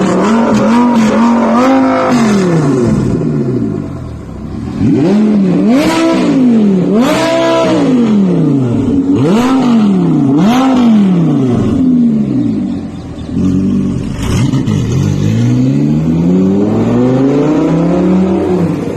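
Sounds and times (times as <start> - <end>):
car engine revving loudly: 0.0 - 18.9.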